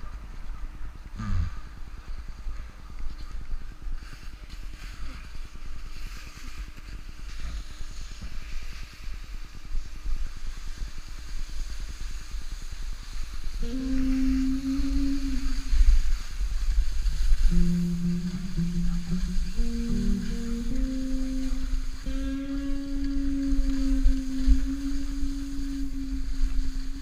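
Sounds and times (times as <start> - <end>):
wind rumbling on microphone: 0.0 - 27.0
skis hissing over snow: 2.0 - 27.0.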